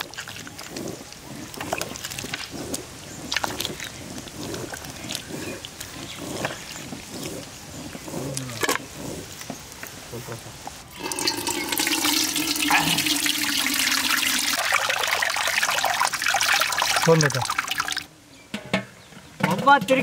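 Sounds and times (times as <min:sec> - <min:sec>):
hands squelching wet pulp: 0:00.0 - 0:10.0, 0:10.7 - 0:18.1.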